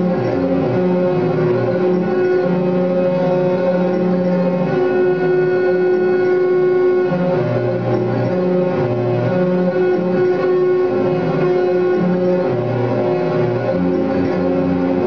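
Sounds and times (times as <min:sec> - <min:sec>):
drone music sustained tones: 0:00.0 - 0:15.0.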